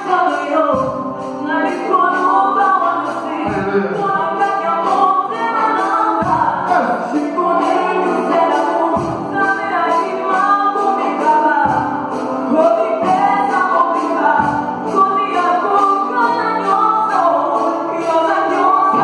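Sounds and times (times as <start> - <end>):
keyboard accompaniment: 0.0 - 19.0
woman singing: 0.0 - 19.0.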